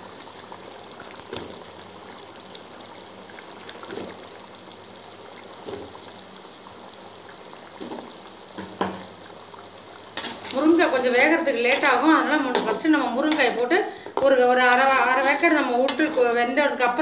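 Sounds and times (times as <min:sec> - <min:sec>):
gravy bubbling in a pan: 0:00.0 - 0:17.0.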